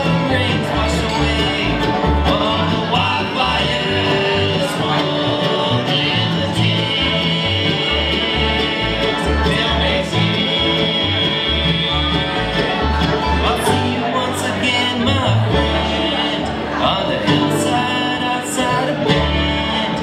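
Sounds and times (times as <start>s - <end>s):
bluegrass band playing: 0.0s - 20.0s
upright bass plucking: 0.0s - 20.0s.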